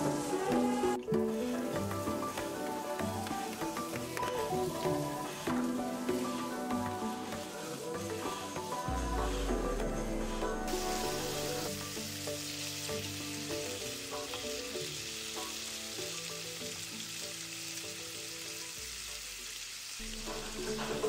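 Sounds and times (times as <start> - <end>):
pork sizzling in a pan: 0.0 - 21.0.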